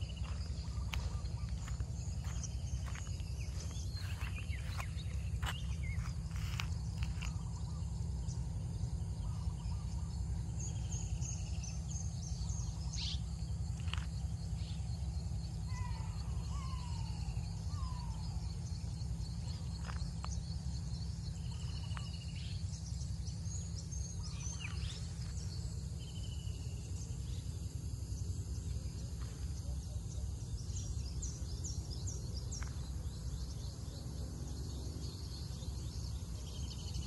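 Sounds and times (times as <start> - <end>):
birdsong: 0.0 - 37.0
steady low rumble: 0.0 - 37.0.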